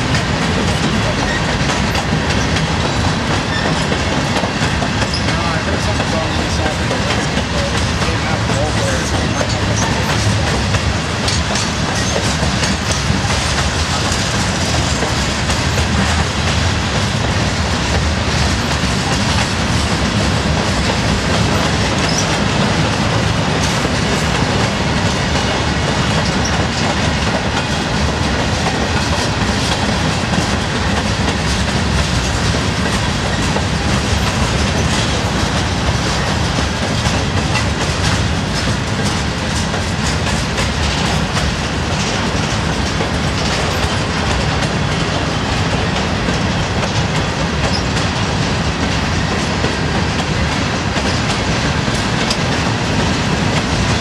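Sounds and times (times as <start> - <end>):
freight train wheels clicking: 0.0 - 54.0.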